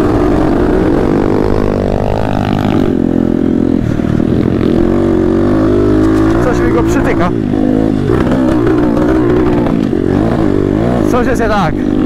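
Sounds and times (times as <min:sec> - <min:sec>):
motorbike engine under throttle: 0:00.0 - 0:12.0.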